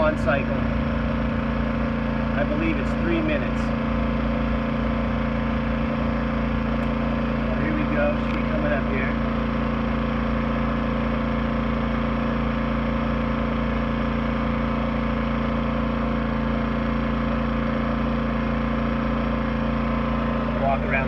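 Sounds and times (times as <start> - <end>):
generator running: 0.0 - 21.0.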